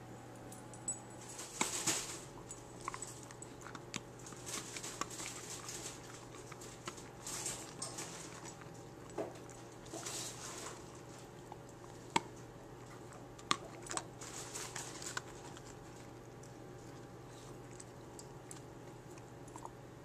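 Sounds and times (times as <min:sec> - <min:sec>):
dog chewing crunchy treat: 0:01.2 - 0:19.9.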